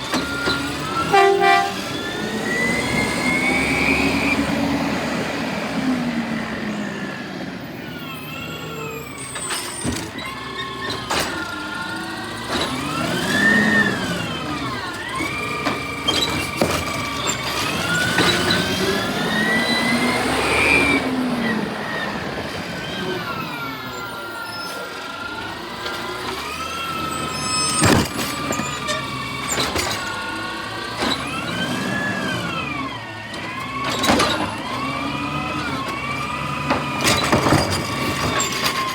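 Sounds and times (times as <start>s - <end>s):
garbage truck whine: 0.0s - 38.9s.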